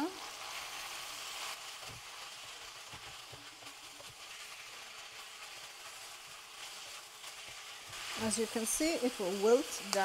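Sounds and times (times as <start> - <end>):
vegetables sizzling in a pan: 0.0 - 10.0
wooden spoon stirring: 0.6 - 8.8.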